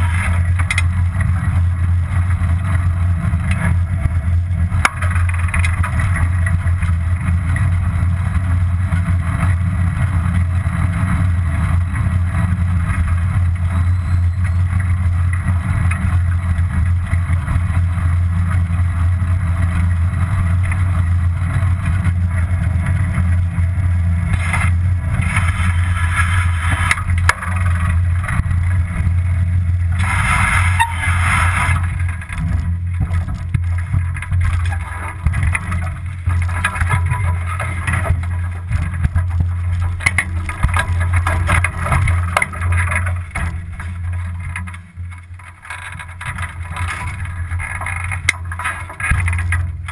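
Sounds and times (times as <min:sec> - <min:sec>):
bicycle road noise: 0:00.0 - 0:49.9
wind rumble on microphone: 0:00.0 - 0:49.9.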